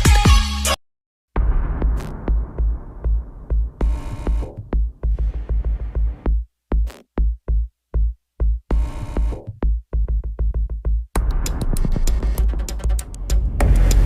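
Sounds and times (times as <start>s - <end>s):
electronic music with drum machine beat: 0.0s - 0.8s, 1.4s - 14.0s.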